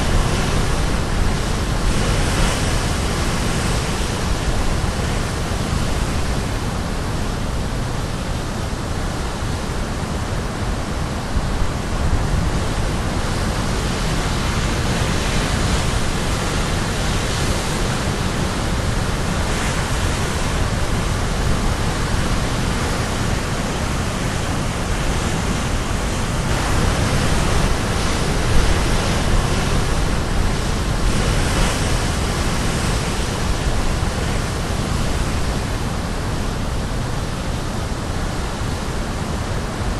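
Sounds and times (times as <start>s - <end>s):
surf waves crashing: 0.0s - 39.9s.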